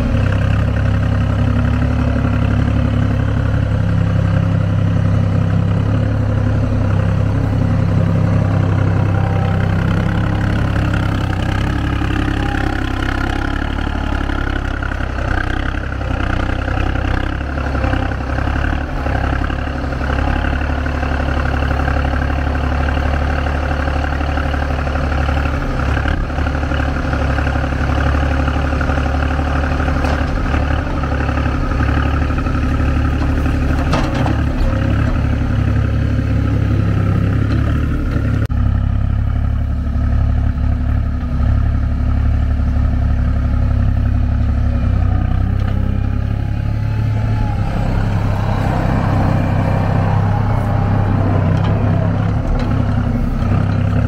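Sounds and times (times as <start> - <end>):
loader engine running: 0.0 - 54.0.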